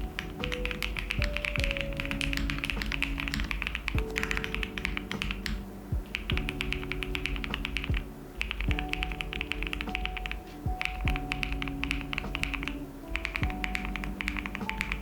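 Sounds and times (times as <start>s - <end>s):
background music: 0.0s - 15.0s
mechanical keyboard typing: 0.0s - 15.0s.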